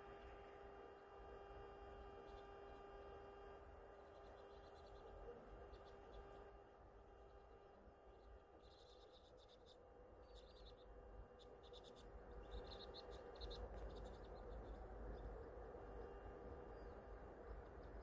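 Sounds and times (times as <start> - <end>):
low steady rumble: 0.0 - 18.0
small birds twittering: 2.1 - 2.9, 3.9 - 18.0.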